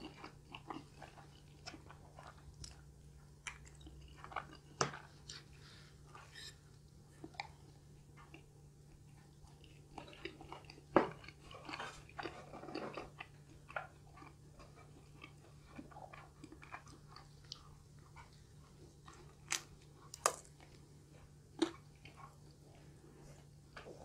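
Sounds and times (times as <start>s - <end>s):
faint steady hum: 0.0s - 24.0s
person chewing food wetly: 0.0s - 24.0s.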